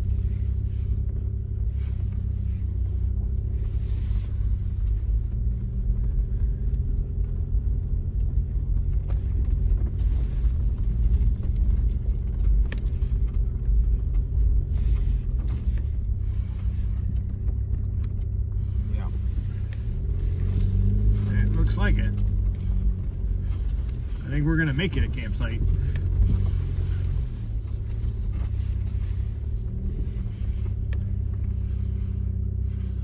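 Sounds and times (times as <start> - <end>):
engine and tyre rumble: 0.0 - 33.0.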